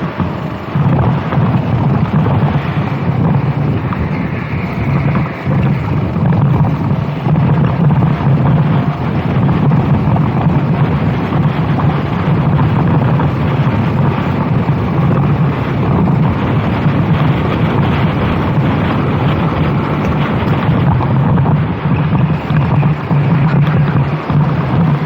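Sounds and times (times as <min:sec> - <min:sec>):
kart engine running: 0:00.0 - 0:25.0
wind buffeting microphone: 0:00.0 - 0:25.0.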